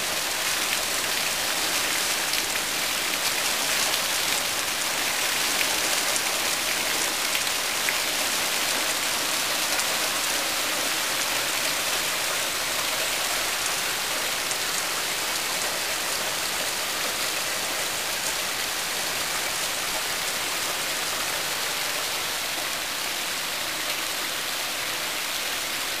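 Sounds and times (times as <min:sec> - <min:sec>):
heavy rain on grass and asphalt: 0:00.0 - 0:26.0.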